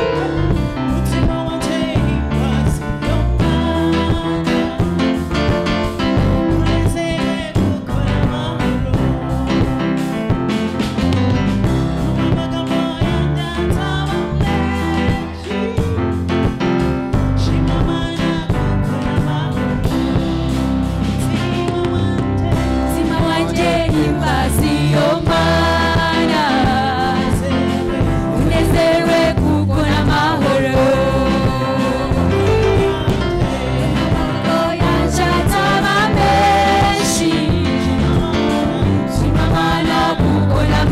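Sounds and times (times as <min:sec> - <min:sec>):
gospel choir singing with band: 0:00.0 - 0:40.9.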